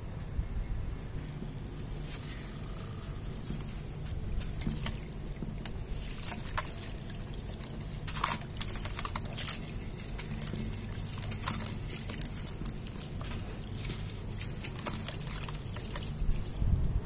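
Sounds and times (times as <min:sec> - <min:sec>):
damp sand crunching: 0:01.7 - 0:17.0
grains pattering into water: 0:01.9 - 0:16.7.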